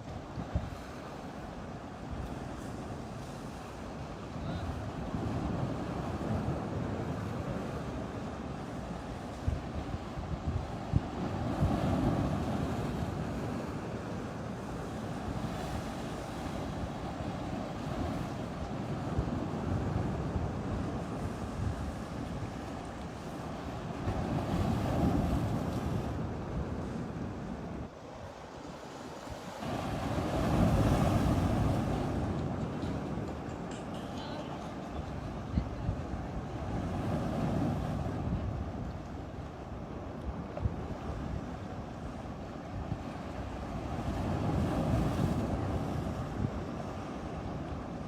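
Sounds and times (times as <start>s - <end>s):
wind buffeting microphone: 0.0s - 28.4s, 29.1s - 34.0s, 34.7s - 48.0s
sea waves breaking on shore: 0.0s - 48.0s.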